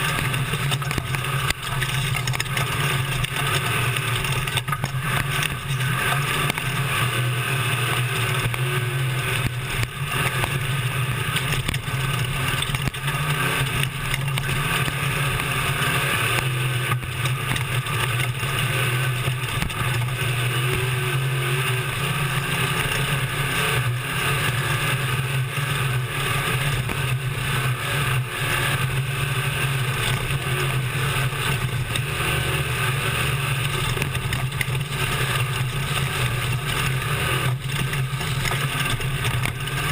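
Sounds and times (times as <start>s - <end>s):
constant rushing noise: 0.0s - 39.9s.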